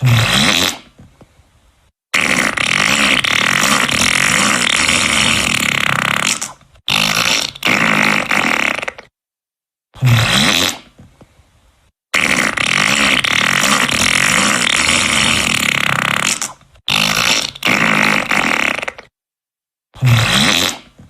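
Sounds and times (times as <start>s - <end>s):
fart sound effects: 0.0s - 1.1s, 2.1s - 9.1s, 10.0s - 11.1s, 12.1s - 19.2s, 20.0s - 21.0s.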